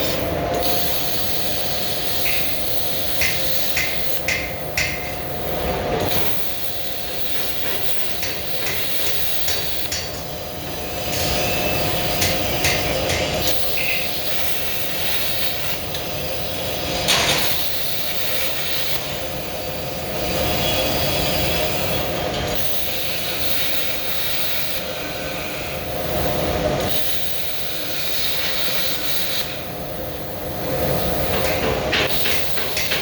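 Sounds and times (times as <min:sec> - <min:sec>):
plasma cutter hissing: 0:00.0 - 0:33.0.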